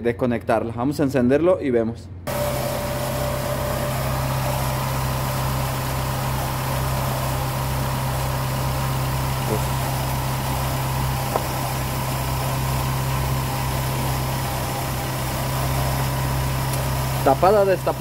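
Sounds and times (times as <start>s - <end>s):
car engine idling: 2.3s - 18.0s.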